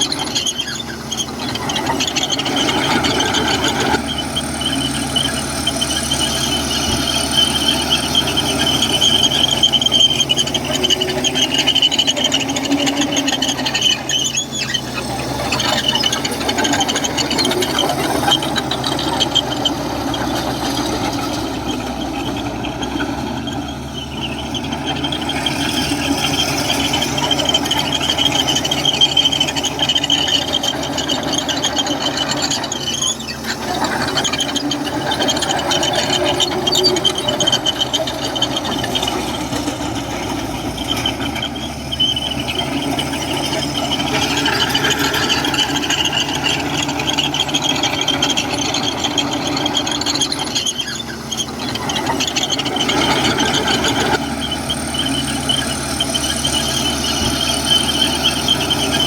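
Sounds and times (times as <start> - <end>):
bulldozer diesel engine drone: 0.0 - 59.0
steel tracks squealing: 0.0 - 59.0.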